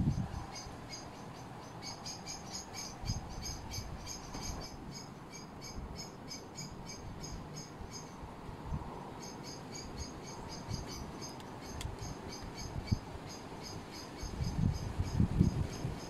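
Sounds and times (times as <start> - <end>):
insect chirping: 0.0 - 8.3, 9.1 - 16.0.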